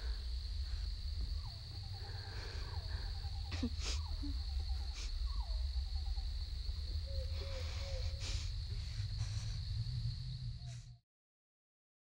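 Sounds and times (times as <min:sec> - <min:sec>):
high-pitched insect chorus: 0:00.0 - 0:11.0
low rumble: 0:00.0 - 0:11.0.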